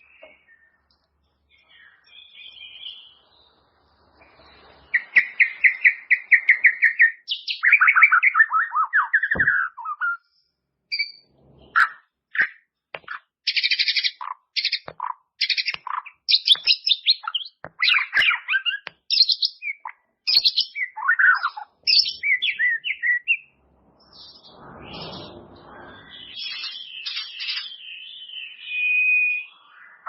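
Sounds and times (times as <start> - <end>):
bird singing: 0.0 - 30.0.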